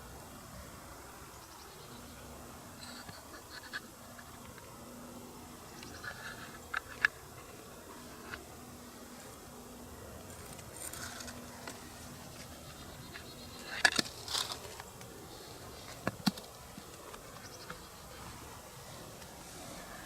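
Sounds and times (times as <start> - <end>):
insect buzzing: 0.0 - 20.0.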